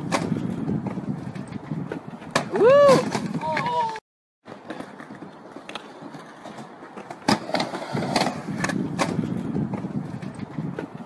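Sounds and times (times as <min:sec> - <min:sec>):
skateboard wheels rolling on wood: 0:00.0 - 0:11.0.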